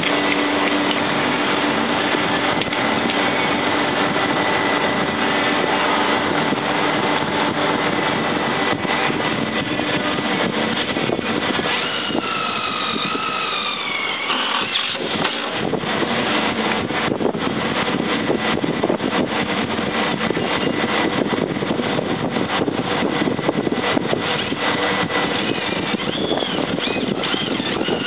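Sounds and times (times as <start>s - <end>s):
impact driver whining and rattling: 0.0s - 18.6s, 23.9s - 28.0s
mechanical hum: 0.0s - 28.0s.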